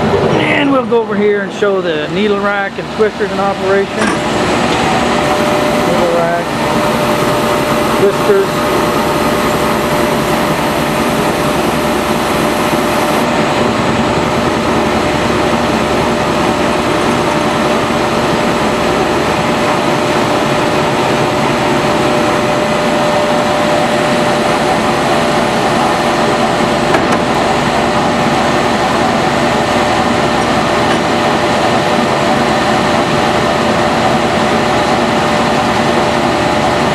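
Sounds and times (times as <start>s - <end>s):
baler machinery droning: 0.0s - 36.9s.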